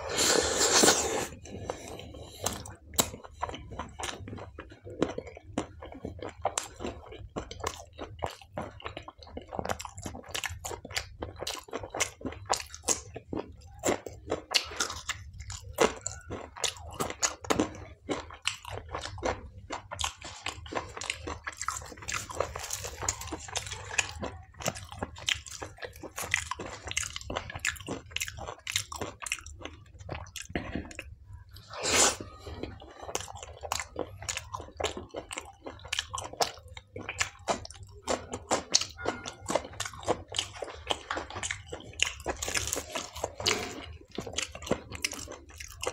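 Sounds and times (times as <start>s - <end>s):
person chewing: 0.0s - 45.9s.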